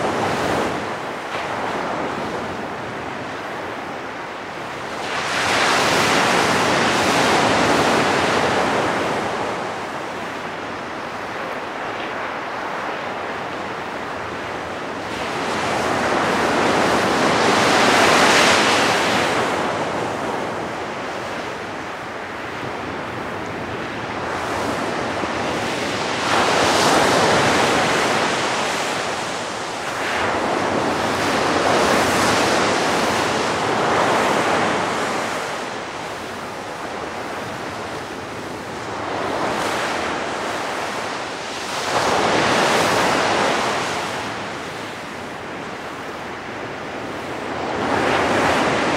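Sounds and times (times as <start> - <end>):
waves washing onto beach: 0.0 - 48.9
wind: 0.0 - 48.9.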